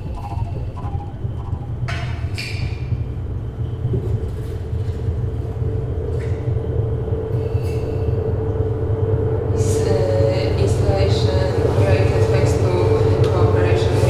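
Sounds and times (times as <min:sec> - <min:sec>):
faint hum: 0:00.0 - 0:14.0
low rumbling drone: 0:00.0 - 0:14.0.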